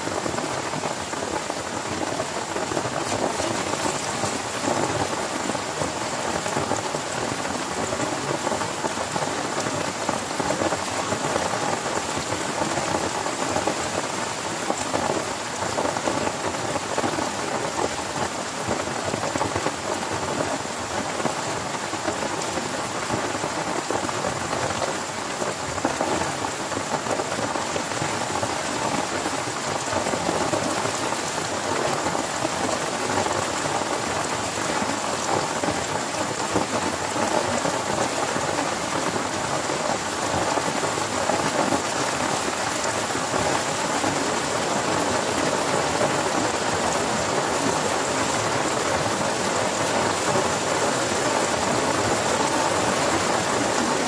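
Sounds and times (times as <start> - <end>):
heavy rain on a tent: 0.0 - 54.0.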